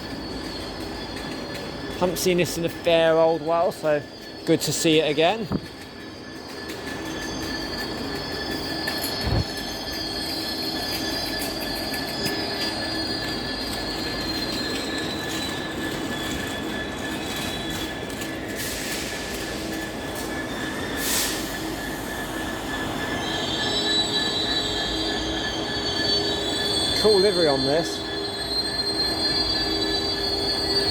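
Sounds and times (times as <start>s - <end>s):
brakes squealing: 0.0s - 30.9s
train wheels rumbling: 0.0s - 30.9s.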